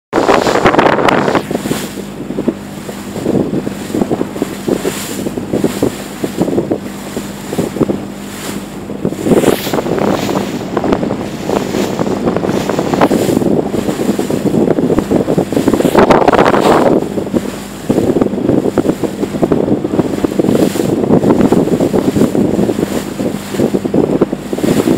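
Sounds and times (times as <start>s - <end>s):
motorboat engine humming: 0.1s - 24.9s
water rushing along hull: 0.1s - 24.9s
wind buffeting microphone: 0.1s - 24.9s.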